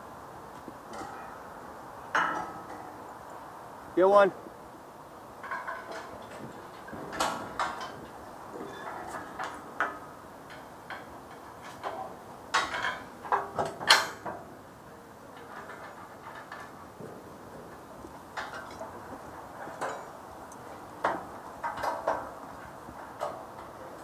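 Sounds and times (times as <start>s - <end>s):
steel clanking against steel plates: 0.9s - 3.1s, 5.4s - 14.5s, 15.3s - 24.0s.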